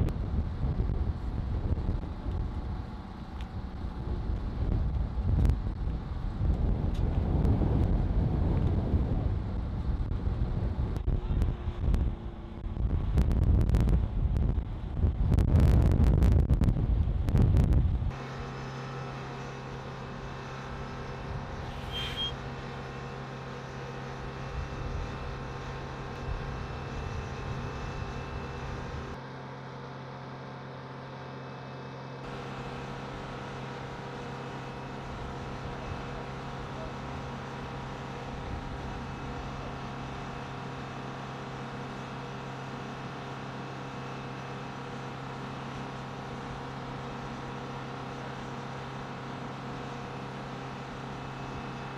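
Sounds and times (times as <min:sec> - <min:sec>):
ground equipment engine hum: 0:00.0 - 0:51.9.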